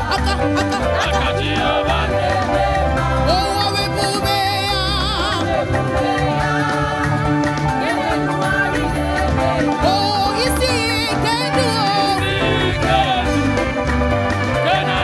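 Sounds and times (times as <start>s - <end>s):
gospel worship music: 0.0s - 15.0s.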